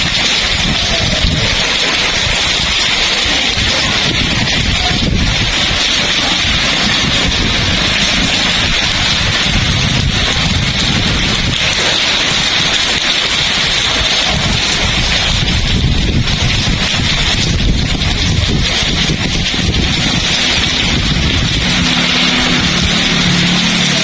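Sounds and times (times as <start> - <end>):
heavy rain pouring: 0.0 - 24.0
wind buffeting microphone: 0.0 - 24.0.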